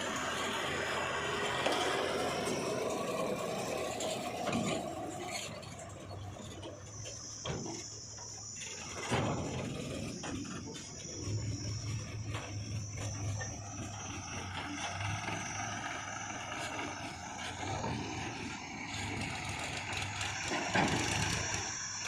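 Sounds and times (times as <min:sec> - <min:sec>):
heavy diesel machinery running: 0:00.0 - 0:22.0
steady high-pitched whine: 0:00.0 - 0:22.0.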